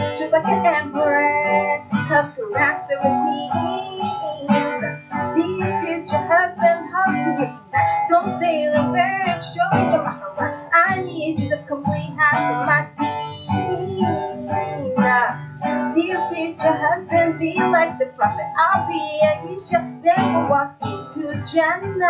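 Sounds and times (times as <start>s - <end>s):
acoustic guitar plucked chords: 0.0s - 22.0s
woman singing: 0.0s - 22.0s.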